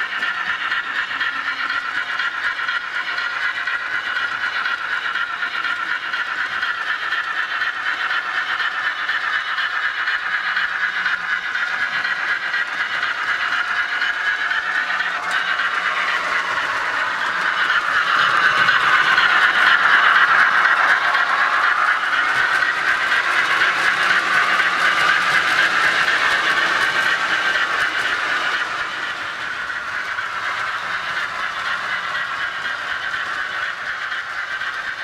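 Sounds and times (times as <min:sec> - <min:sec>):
model trains whirring on track: 0:00.0 - 0:35.0.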